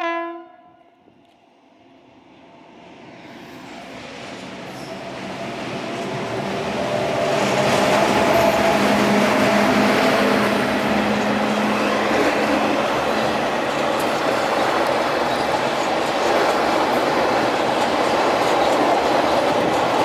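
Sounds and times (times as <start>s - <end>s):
express train approaching: 1.2s - 20.0s.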